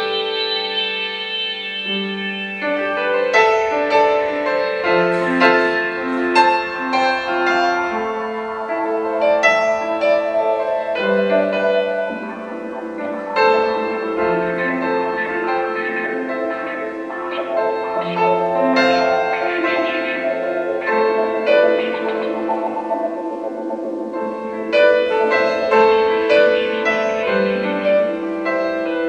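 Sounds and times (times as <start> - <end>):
grand piano notes and chords: 0.0 - 29.0.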